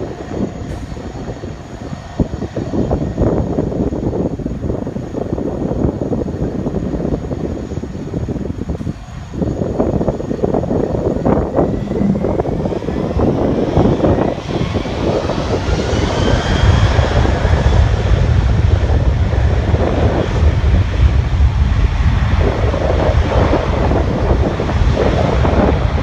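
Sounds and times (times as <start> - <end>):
faint engine whine: 0.0 - 26.0
jet engines rumbling: 0.0 - 26.0
wind buffeting microphone: 0.0 - 26.0.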